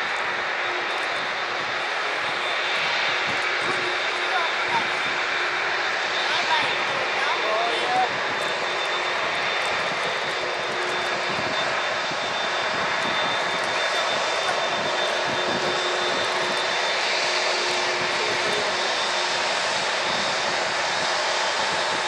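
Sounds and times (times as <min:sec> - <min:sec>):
jet engines taxiing: 0:00.0 - 0:22.0.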